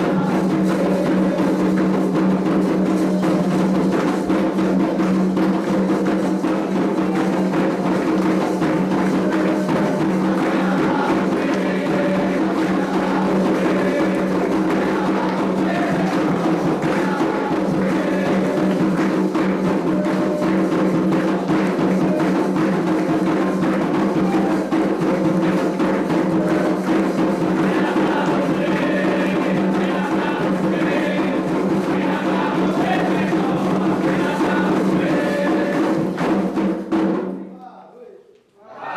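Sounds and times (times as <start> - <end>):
hand drums and percussion: 0.0 - 37.5.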